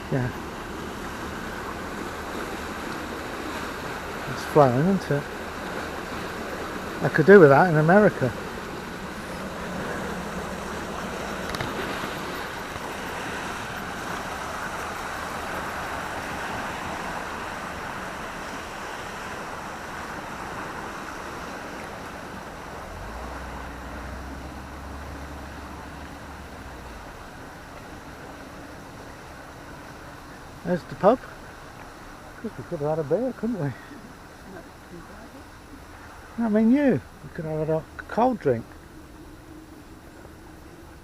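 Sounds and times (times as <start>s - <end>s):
low hum: 0.0s - 41.0s
water rushing: 0.0s - 41.0s.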